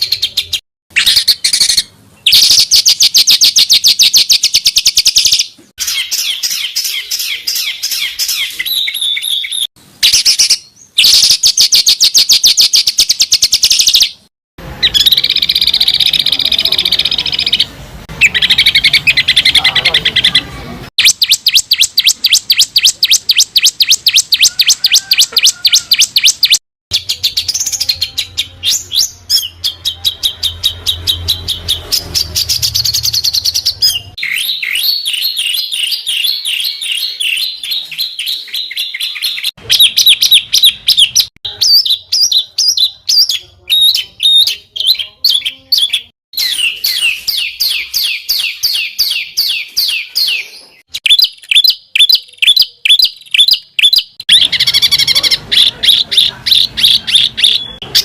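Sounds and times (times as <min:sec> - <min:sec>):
songbird chirps and trills: 0:00.0 - 0:58.0.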